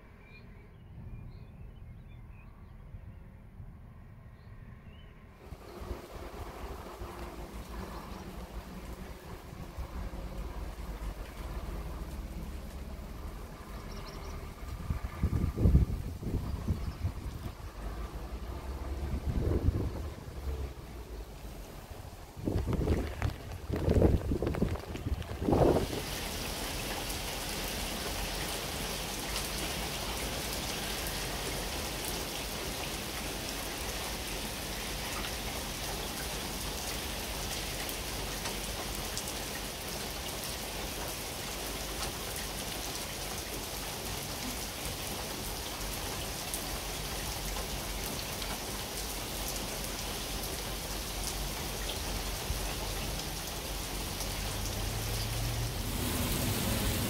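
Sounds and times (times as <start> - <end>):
heavy rain on pavement: 5.4 - 57.0.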